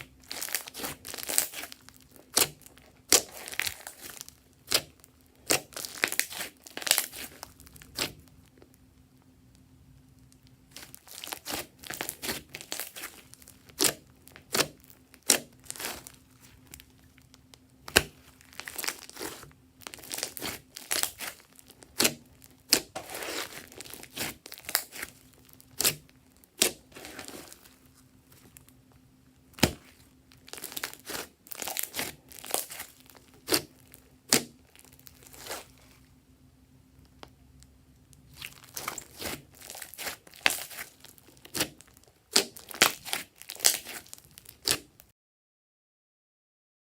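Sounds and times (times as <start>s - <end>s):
slime squished by hand: 0.0s - 8.4s, 10.7s - 17.2s, 17.8s - 28.7s, 29.5s - 36.0s, 38.2s - 45.0s.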